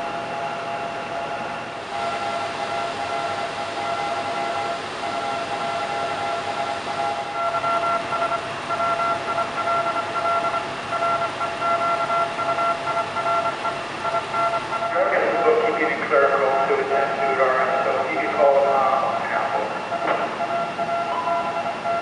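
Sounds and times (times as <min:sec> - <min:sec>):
morse code tones: 0:01.2 - 0:22.0.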